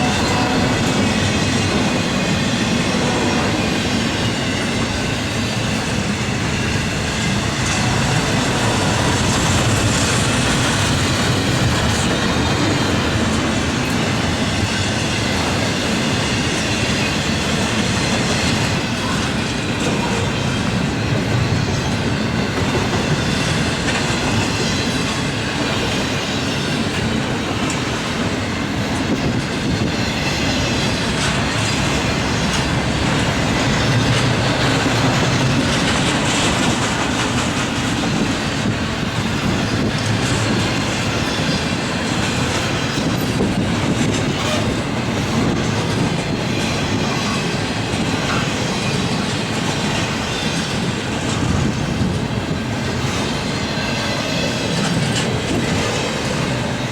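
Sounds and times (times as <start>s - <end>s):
clickety-clack over rail joints: 0.0s - 56.9s
train wheels rumbling on rail: 0.0s - 56.9s.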